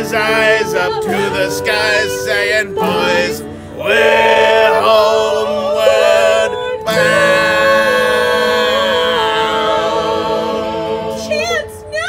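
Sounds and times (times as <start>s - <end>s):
voices singing in harmony: 0.0s - 12.0s.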